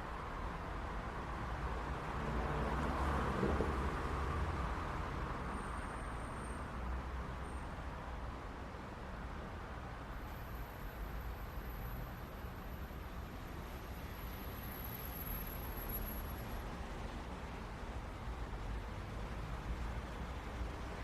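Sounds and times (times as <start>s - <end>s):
city traffic road noise: 0.0s - 21.0s.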